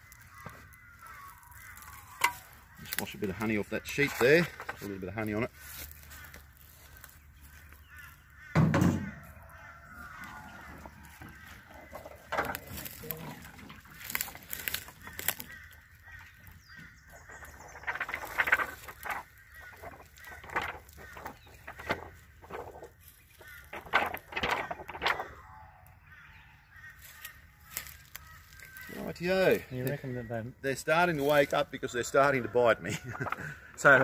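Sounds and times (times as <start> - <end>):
bird honking: 0.0 - 4.9, 5.6 - 34.0.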